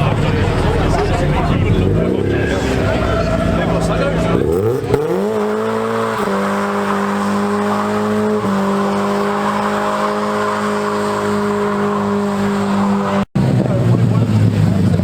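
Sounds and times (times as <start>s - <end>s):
tyres squealing: 0.0s - 13.3s
car engine at high revs: 0.0s - 15.0s.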